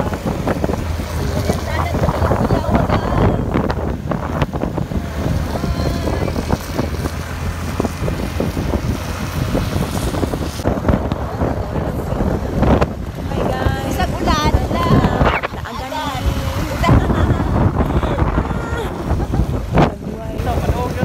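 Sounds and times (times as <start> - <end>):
stream water rushing: 0.0 - 21.0
wind buffeting microphone: 0.0 - 21.0.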